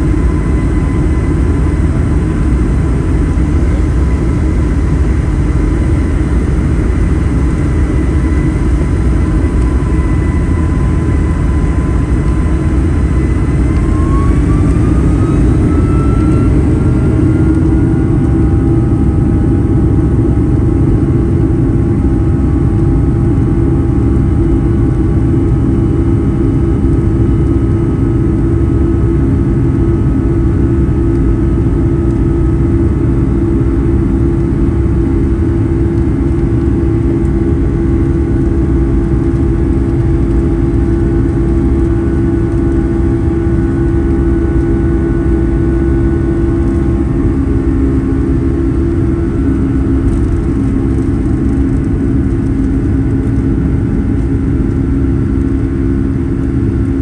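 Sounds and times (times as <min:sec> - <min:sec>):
deep hum of takeoff roll: 0:00.0 - 0:57.0
jet engines rumbling and whining: 0:00.0 - 0:57.0.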